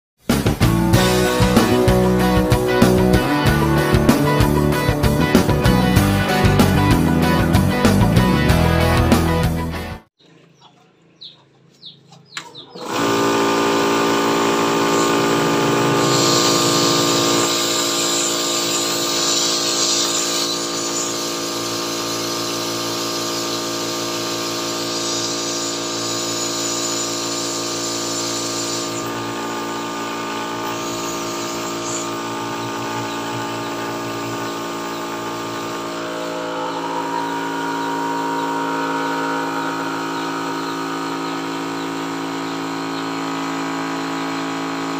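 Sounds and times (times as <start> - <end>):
air compressor running: 0.2 - 9.8, 12.7 - 44.9.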